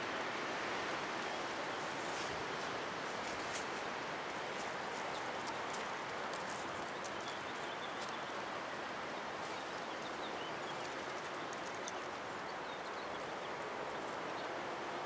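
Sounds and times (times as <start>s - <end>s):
strong wind through treetops: 0.0s - 15.0s.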